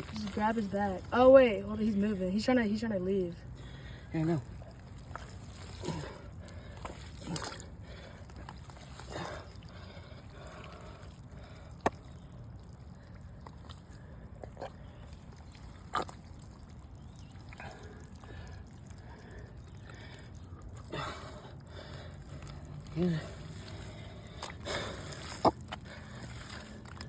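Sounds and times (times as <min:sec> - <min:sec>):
water trickling and splashing: 0:00.0 - 0:27.0.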